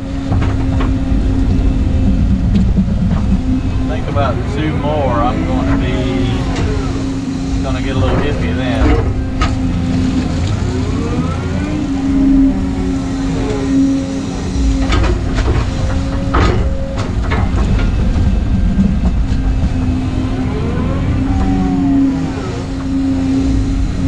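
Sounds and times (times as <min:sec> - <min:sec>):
diesel engine drone: 0:00.0 - 0:24.0
hydraulics whining: 0:00.0 - 0:24.0.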